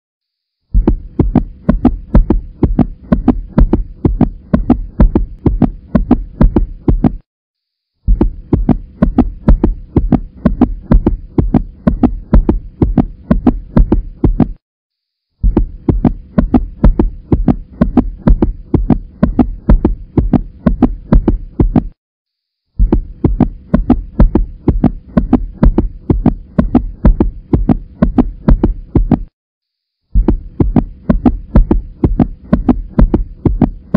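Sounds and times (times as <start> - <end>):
fast heavy low thumps: 0.7 - 7.2, 8.1 - 14.6, 15.4 - 22.0, 22.8 - 29.3, 30.2 - 33.9.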